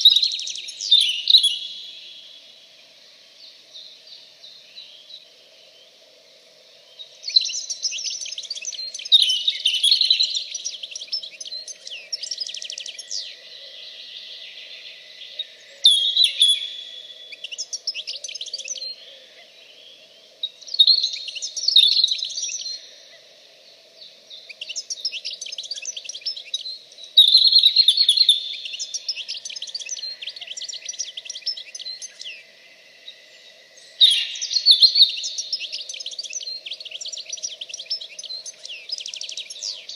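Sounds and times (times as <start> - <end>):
songbird trilling and chirping: 0.0 - 2.4, 6.9 - 23.2, 24.0 - 39.9.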